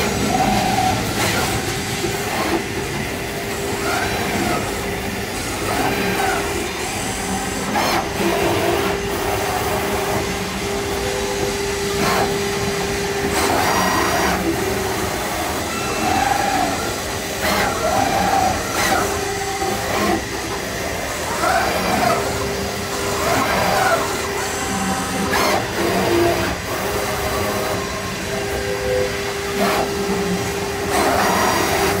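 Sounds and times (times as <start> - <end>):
machine motor hum: 0.0 - 32.0.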